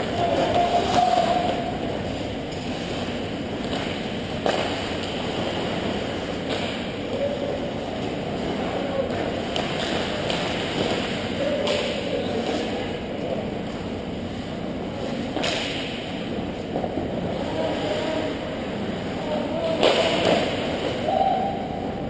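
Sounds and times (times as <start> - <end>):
distant skating and sticks: 0.0 - 12.9, 13.7 - 18.3, 19.1 - 21.7
arena hum: 0.0 - 22.0.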